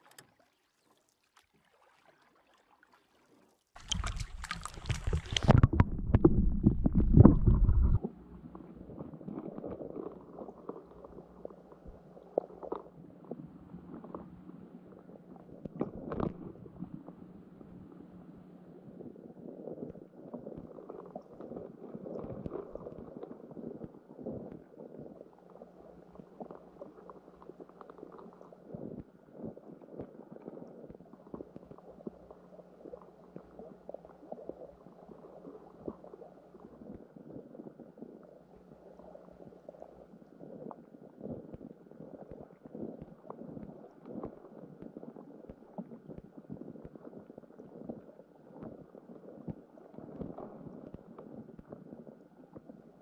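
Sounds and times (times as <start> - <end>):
small underwater clicks and knocks: 0.0 - 0.5, 3.8 - 53.0
faint low underwater hum: 0.0 - 53.0.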